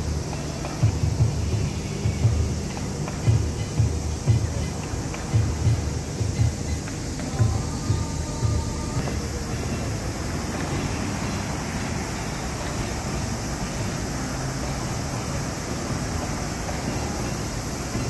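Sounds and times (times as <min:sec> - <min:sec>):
road traffic rushing hum: 0:00.0 - 0:18.0.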